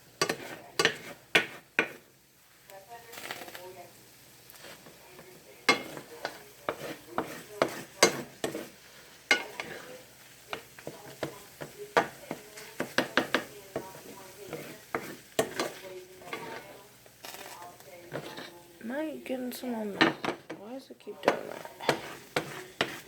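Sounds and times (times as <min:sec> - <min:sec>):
utensil scraping a frying pan: 0:00.0 - 0:02.1, 0:04.4 - 0:18.8, 0:20.0 - 0:23.0
light sizzle: 0:00.0 - 0:23.0.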